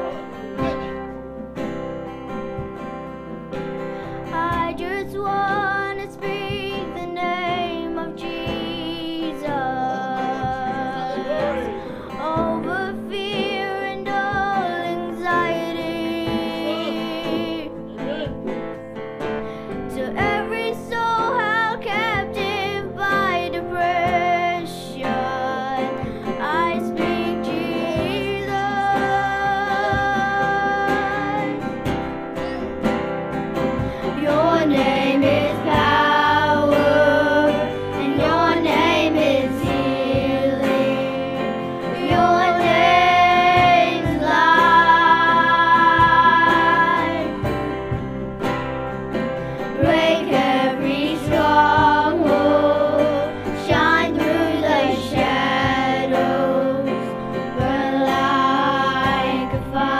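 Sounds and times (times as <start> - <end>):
acoustic guitar: 0.0 - 59.9
girls singing together: 4.2 - 17.8, 19.9 - 32.1, 33.8 - 48.0, 49.5 - 59.9.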